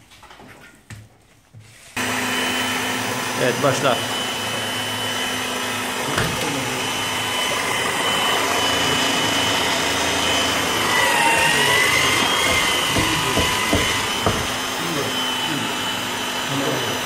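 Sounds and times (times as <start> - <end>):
drill press motor whine: 2.0 - 17.0.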